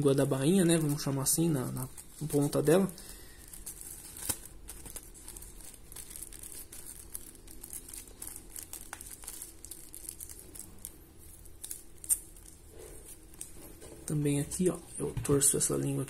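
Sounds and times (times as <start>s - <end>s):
plastic wrapping crinkling: 0.1s - 14.8s.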